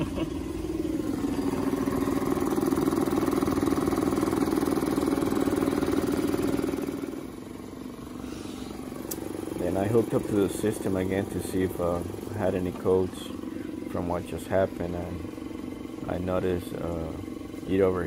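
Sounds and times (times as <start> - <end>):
outboard engine running: 0.0 - 18.0.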